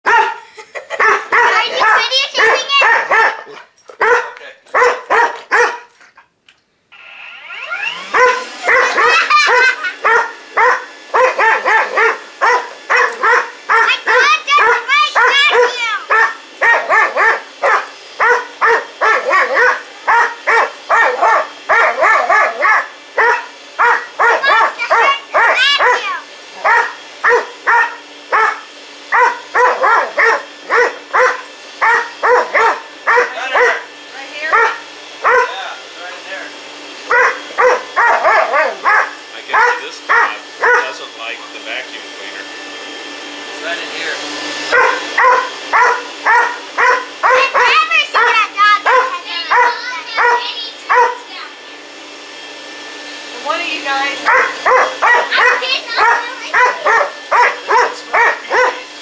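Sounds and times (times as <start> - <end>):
dog barking: 0.0 - 5.9, 8.1 - 33.9, 34.5 - 35.7, 37.1 - 41.0, 44.7 - 51.3, 54.2 - 58.9
vacuum cleaner whining: 0.0 - 6.0, 6.9 - 59.0.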